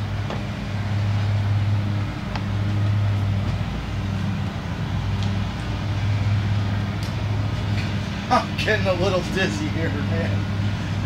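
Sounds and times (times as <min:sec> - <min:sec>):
constant rushing noise: 0:00.0 - 0:11.0.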